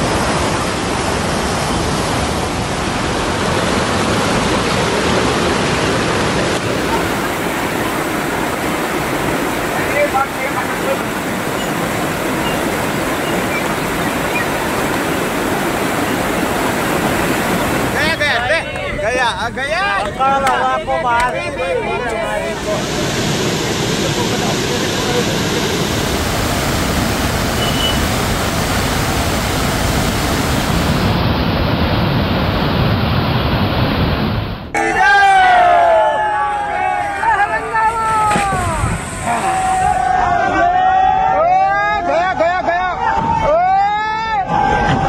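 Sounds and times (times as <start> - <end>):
floodwater rushing: 0.0 - 34.7, 35.6 - 41.4.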